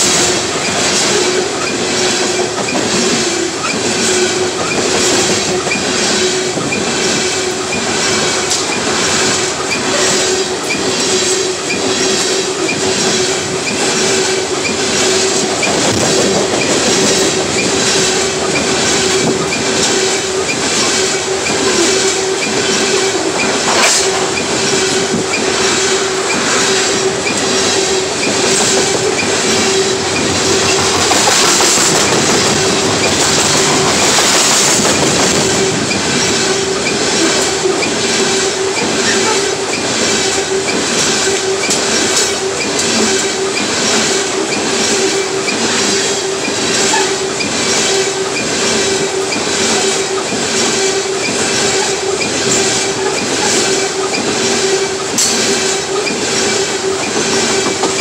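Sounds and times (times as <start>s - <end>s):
freight train rumbling past: 0.0s - 58.0s
wheels clacking over rail joints: 0.0s - 58.0s
wheel squeal: 3.6s - 58.0s.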